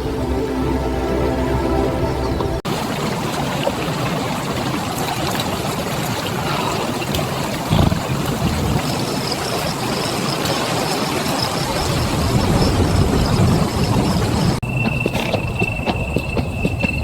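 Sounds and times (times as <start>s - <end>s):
stream water rushing: 0.0s - 15.4s.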